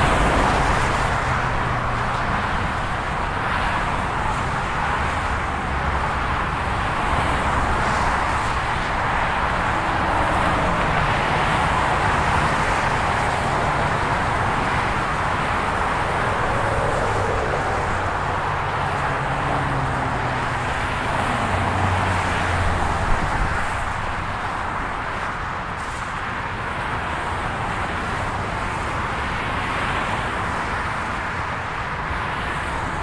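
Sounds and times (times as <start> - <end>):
freeway traffic passing: 0.0 - 33.0.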